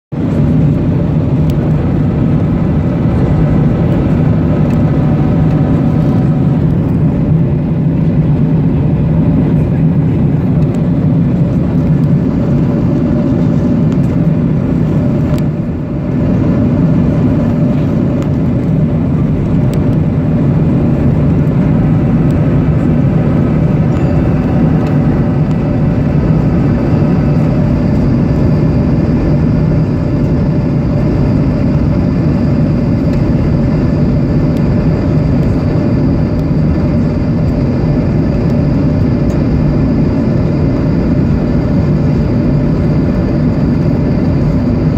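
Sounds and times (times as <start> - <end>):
jet airliner rumble in flight: 0.1 - 44.9.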